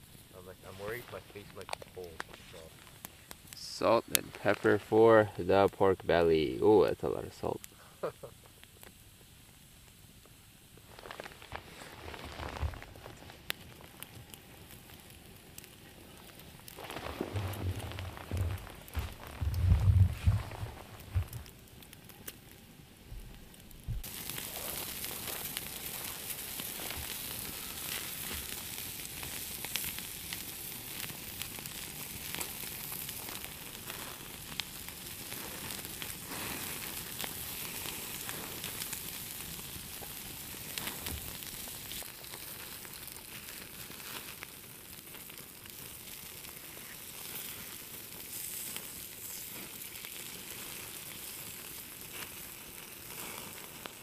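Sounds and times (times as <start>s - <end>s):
meat sizzling with crackles: 0.0s - 54.0s.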